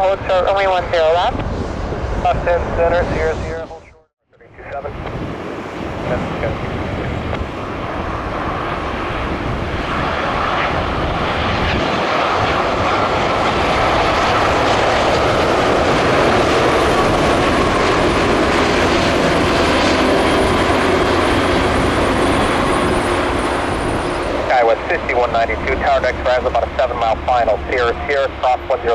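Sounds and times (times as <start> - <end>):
airliner jet engines: 0.0 - 28.9.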